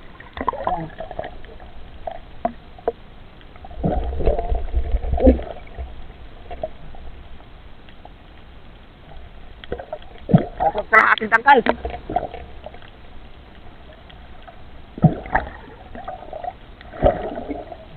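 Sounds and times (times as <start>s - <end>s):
underwater rumble: 0.0s - 17.9s.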